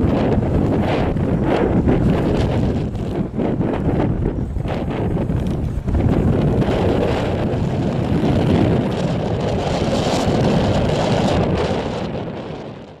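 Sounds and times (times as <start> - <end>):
jet engine noise: 0.0 - 13.0
strong wind buffeting microphone: 0.0 - 13.0.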